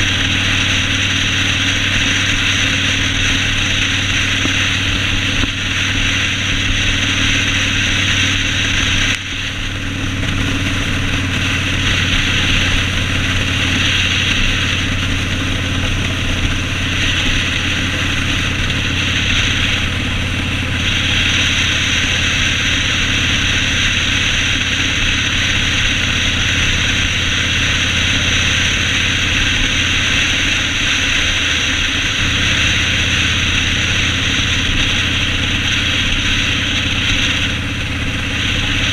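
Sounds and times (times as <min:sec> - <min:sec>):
broad hiss: 0:00.0 - 0:38.9
motorcycle engine running: 0:00.0 - 0:38.9.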